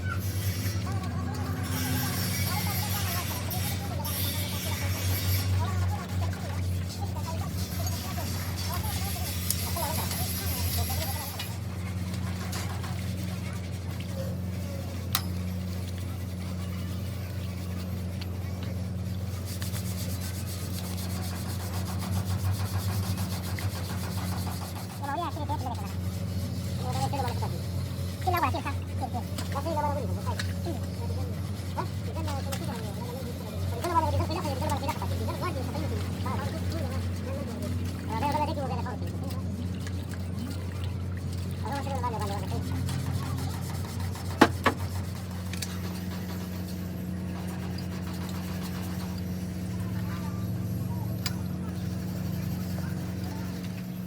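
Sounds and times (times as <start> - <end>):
quick rubbing or scraping strokes: 0.0 - 50.8.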